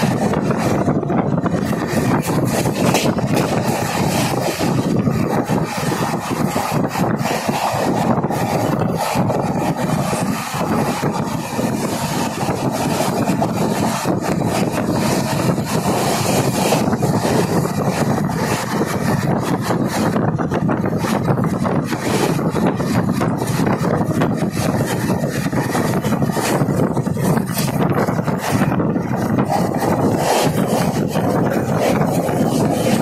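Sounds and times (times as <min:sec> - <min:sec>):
train wheels rushing on rails: 0:00.0 - 0:33.0
coach clicks and rattles: 0:01.5 - 0:33.0.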